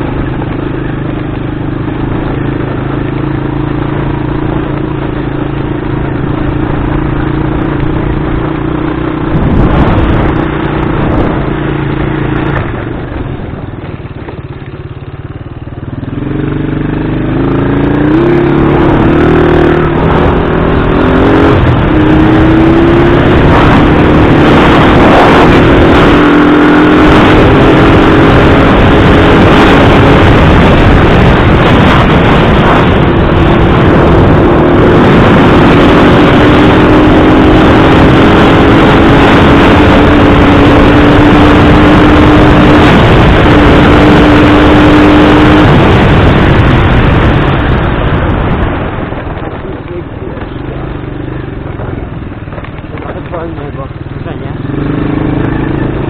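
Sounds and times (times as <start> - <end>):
engine running: 0.0 - 56.0
wind buffeting microphone: 0.0 - 56.0.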